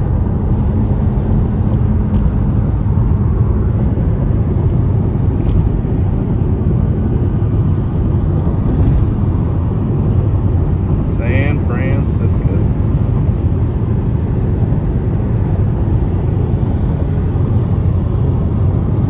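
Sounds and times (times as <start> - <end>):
car road noise from inside cabin: 0.0 - 19.0.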